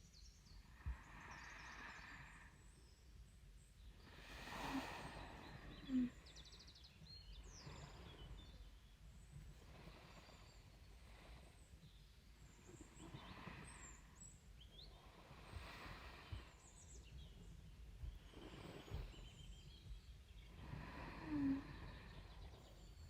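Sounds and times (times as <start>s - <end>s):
slow quiet breathing: 0.4s - 23.0s.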